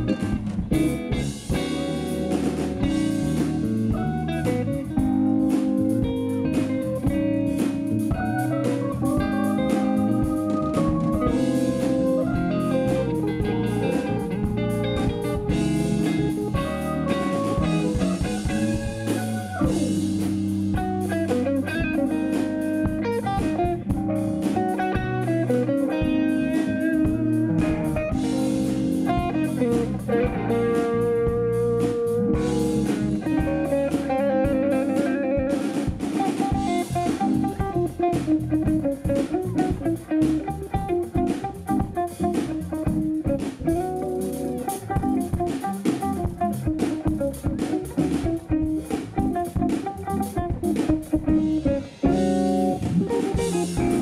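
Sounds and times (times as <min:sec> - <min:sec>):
bass guitar: 0:00.0 - 0:54.0
drum kit: 0:00.0 - 0:54.0
electric guitar: 0:00.0 - 0:54.0
keyboards: 0:00.0 - 0:54.0.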